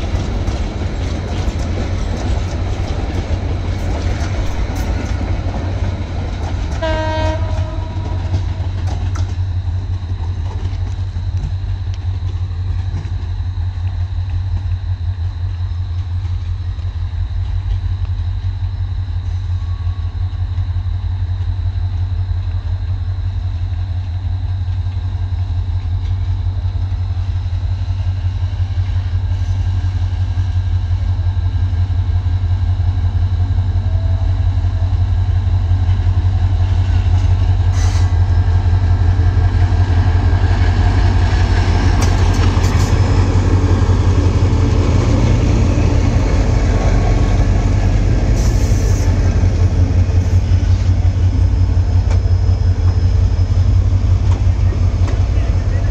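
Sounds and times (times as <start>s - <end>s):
rail and wheel noise: 0.0s - 55.9s
train engine rumble: 0.0s - 55.9s.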